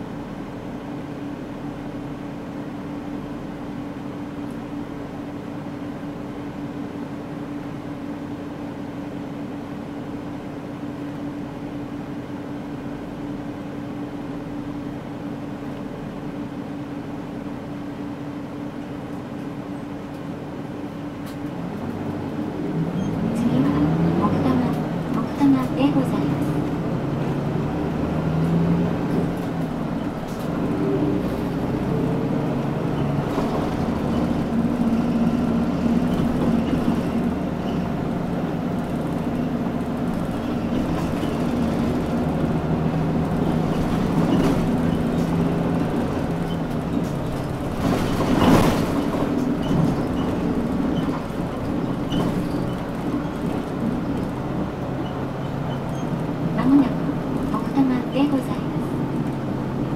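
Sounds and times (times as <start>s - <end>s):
bus diesel engine: 0.0s - 59.9s
road noise: 0.0s - 59.9s.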